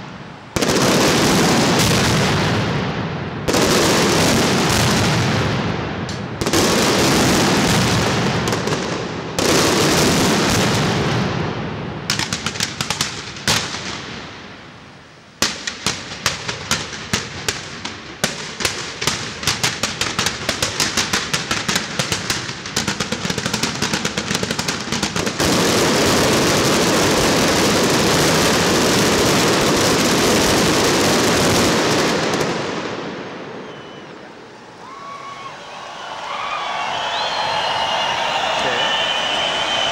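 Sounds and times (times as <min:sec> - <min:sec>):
fireworks sharp bangs: 0:00.0 - 0:34.6
fireworks crackling: 0:00.0 - 0:39.9.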